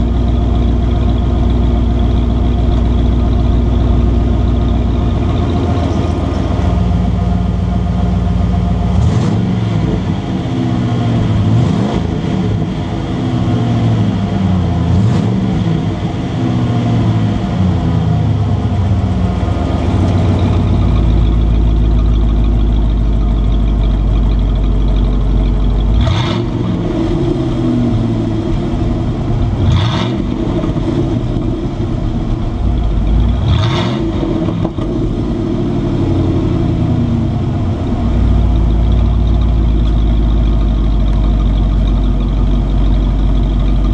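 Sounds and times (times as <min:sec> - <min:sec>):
exhaust crack: 0:00.0 - 0:43.9
truck engine idling and revving: 0:00.0 - 0:43.9.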